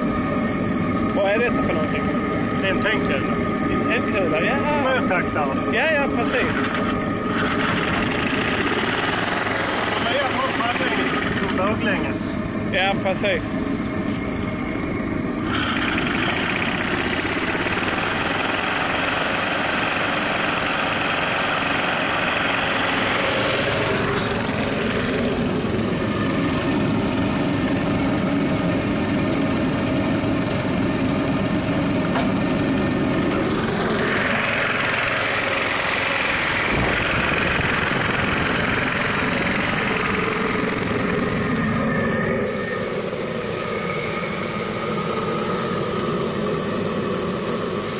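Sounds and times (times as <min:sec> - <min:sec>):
tractor engine idling: 0:00.0 - 0:42.1.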